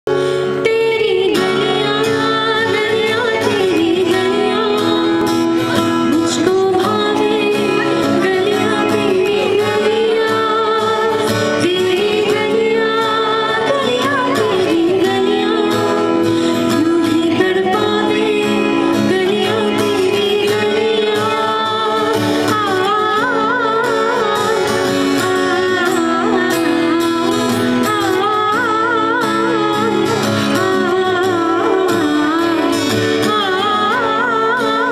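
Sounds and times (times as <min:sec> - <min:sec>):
acoustic guitar: 0:00.1 - 0:34.9
woman singing: 0:00.1 - 0:34.9.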